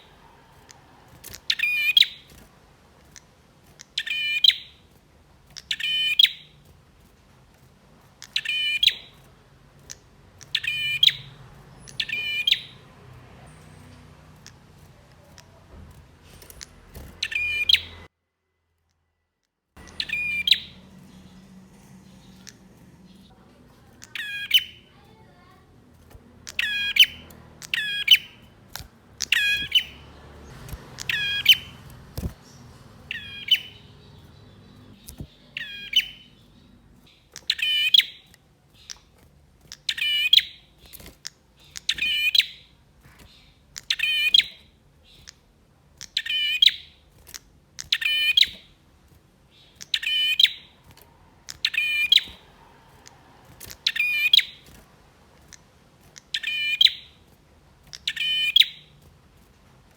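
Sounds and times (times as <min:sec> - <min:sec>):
bird chirping song: 0:00.0 - 0:18.1, 0:19.8 - 0:59.2.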